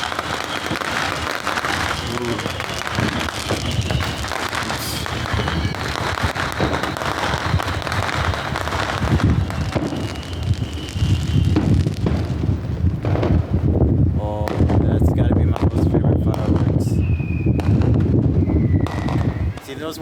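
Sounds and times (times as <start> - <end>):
deep fireworks booms: 0.0 - 20.0
fireworks crackling and popping: 0.0 - 20.0.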